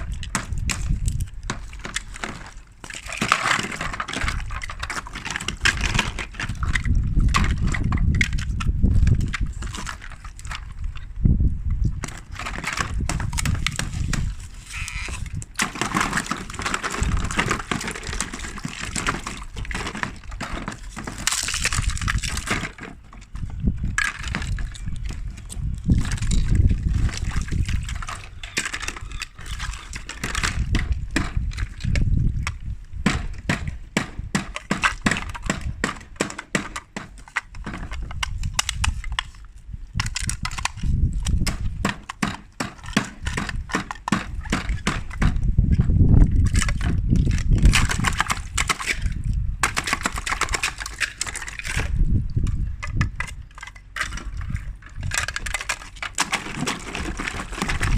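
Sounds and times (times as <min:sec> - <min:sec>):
ice cubes clicking and knocking: 0:00.0 - 0:11.1, 0:11.8 - 0:57.9.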